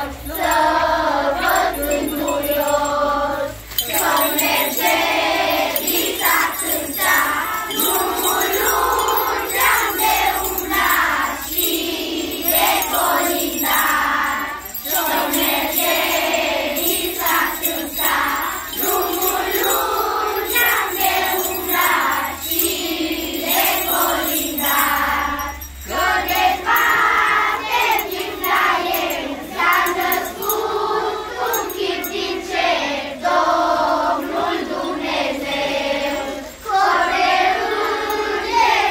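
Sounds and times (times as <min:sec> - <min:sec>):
children singing a carol: 0:00.0 - 0:38.9.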